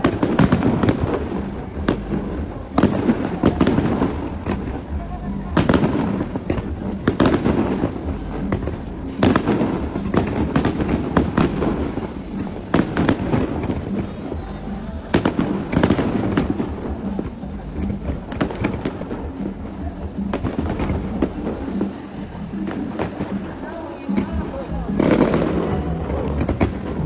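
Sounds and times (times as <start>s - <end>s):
fireworks bangs and pops: 0.0s - 27.0s.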